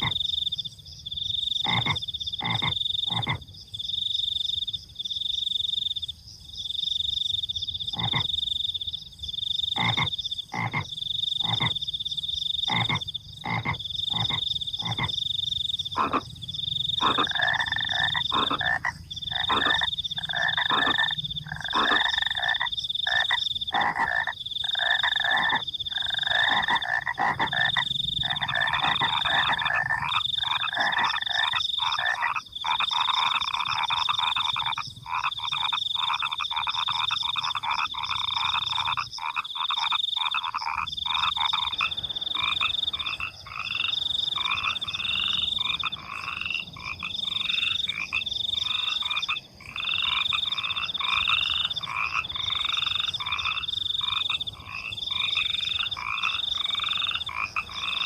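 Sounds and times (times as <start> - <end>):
cricket trill: 0.0 - 58.0
frogs croaking: 0.0 - 58.0.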